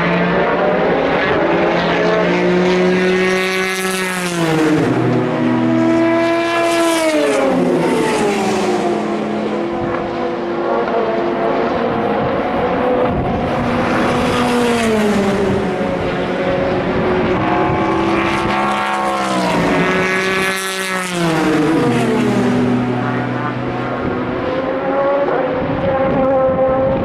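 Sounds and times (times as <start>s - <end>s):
race cars passing: 0.0s - 27.0s.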